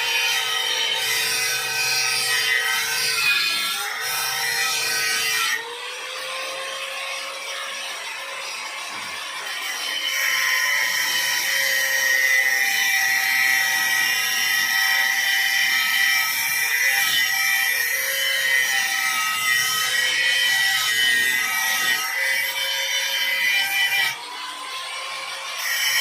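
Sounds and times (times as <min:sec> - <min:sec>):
power tool whining on metal: 0:00.0 - 0:26.0.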